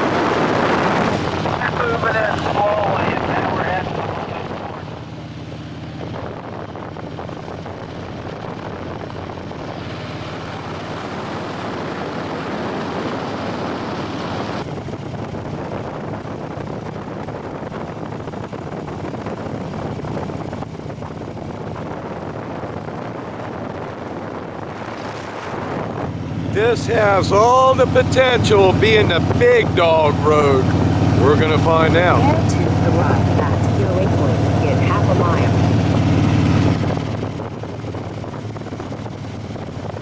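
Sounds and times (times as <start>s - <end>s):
motorcycle engine running: 0.0s - 40.0s
wind rushing over microphone: 0.0s - 40.0s.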